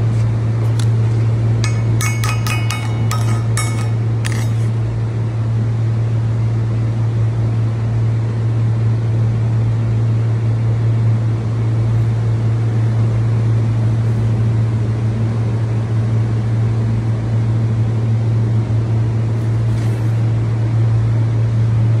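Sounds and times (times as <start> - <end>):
workshop machinery humming: 0.0 - 22.0.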